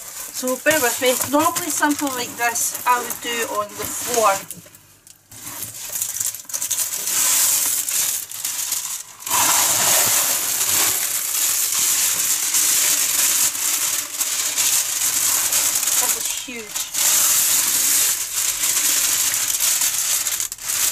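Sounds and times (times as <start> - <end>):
plastic film crinkling: 0.0 - 20.9.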